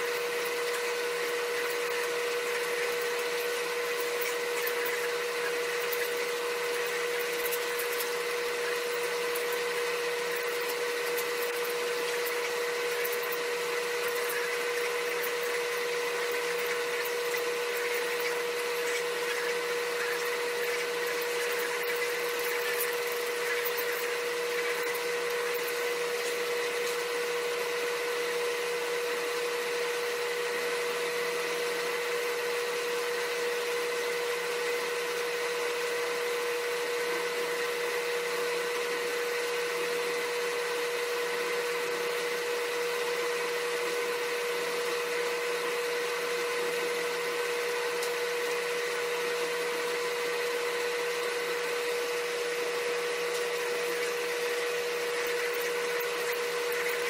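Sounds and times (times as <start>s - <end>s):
mechanical hum with whine: 0.0s - 57.0s.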